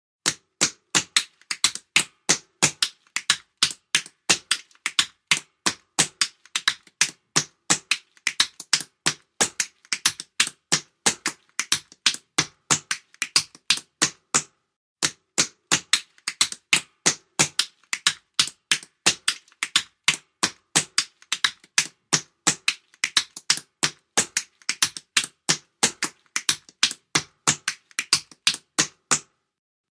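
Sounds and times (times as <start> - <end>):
tap shoes clicking on hard floor: 0.3 - 29.3.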